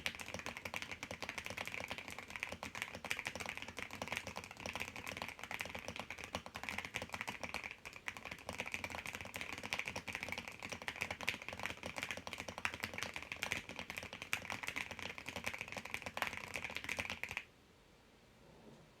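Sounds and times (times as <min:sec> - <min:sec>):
mechanical keyboard typing: 0:00.0 - 0:17.4.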